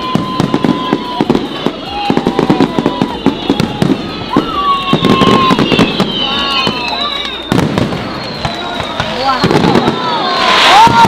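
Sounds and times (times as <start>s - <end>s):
fireworks bangs and crackles: 0.0s - 11.0s
whistling fireworks: 0.0s - 11.0s.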